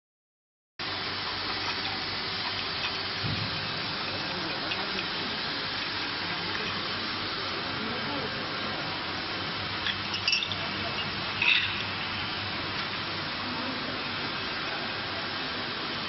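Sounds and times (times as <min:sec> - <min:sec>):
bottling machine running: 0:00.8 - 0:16.0.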